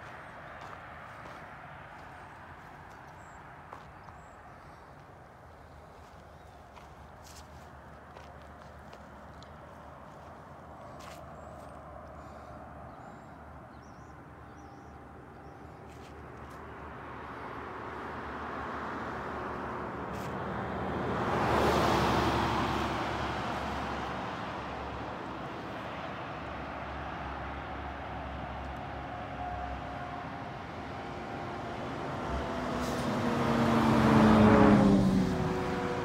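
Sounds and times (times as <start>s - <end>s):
road vehicle passing: 0.0s - 36.0s.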